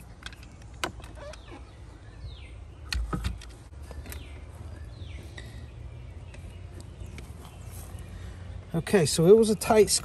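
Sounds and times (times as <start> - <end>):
bird chirping: 0.0 - 10.0
low outdoor rumble: 0.0 - 10.0.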